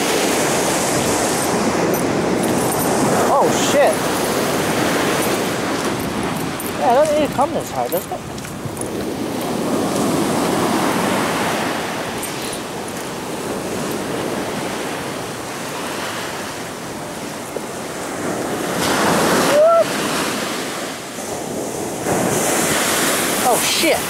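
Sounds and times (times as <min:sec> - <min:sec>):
ocean waves breaking: 0:00.0 - 0:24.0
wind buffeting microphone: 0:00.0 - 0:24.0.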